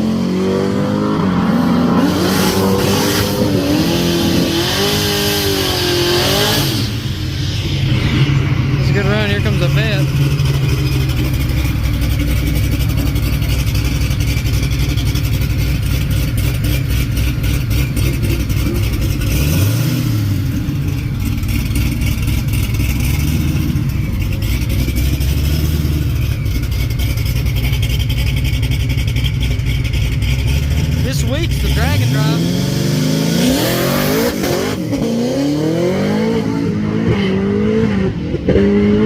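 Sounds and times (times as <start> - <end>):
racing car engines revving: 0.0 - 39.0.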